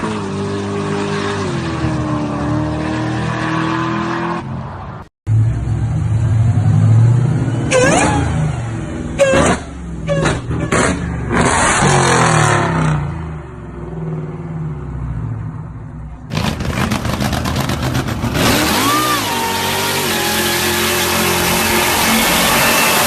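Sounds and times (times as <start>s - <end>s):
car at full throttle roaring: 0.0s - 23.0s.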